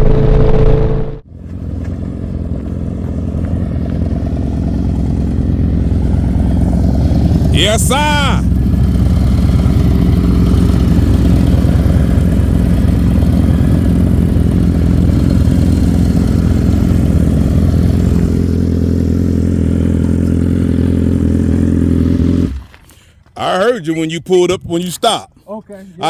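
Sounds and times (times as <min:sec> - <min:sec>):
motorcycle engine running: 0:00.0 - 0:23.1.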